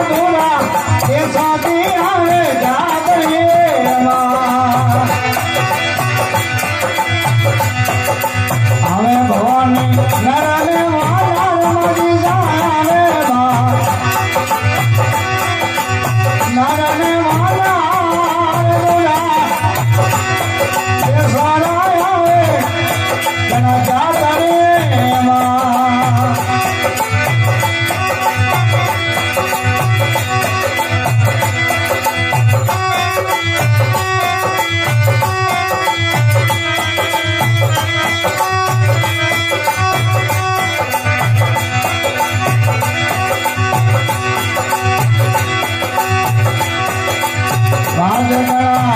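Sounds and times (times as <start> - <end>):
drum steady beat: 0.0 - 48.9.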